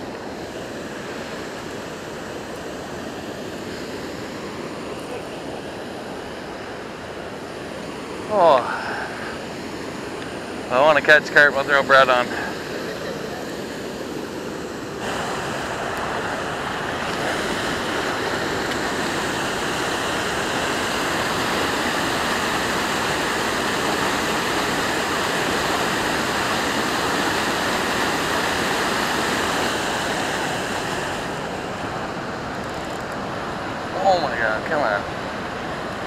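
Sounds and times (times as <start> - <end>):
water rushing over dam: 0.0 - 36.0.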